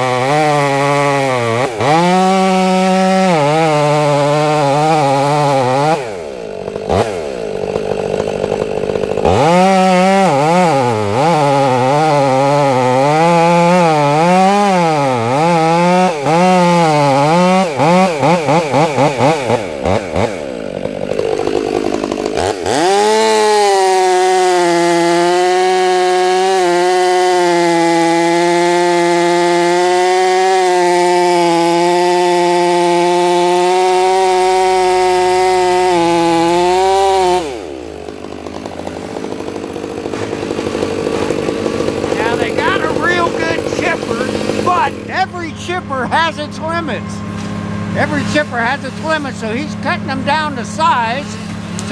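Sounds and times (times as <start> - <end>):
chainsaw engine revving: 0.0 - 51.9.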